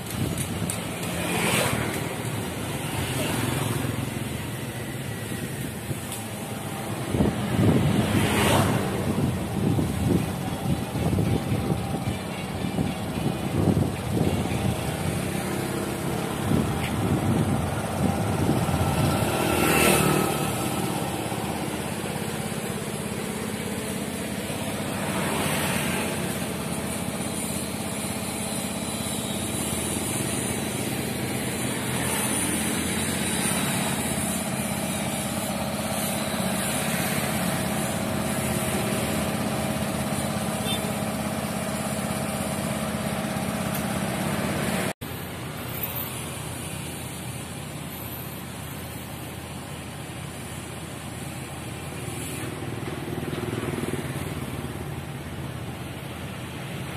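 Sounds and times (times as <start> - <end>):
engine drone: 0.0 - 56.9
street traffic: 0.0 - 56.9
vehicles passing close by: 0.0 - 56.9.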